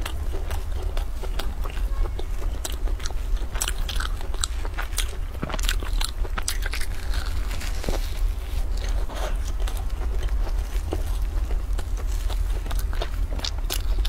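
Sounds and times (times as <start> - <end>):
crunchy pastry chewing: 0.0 - 14.0.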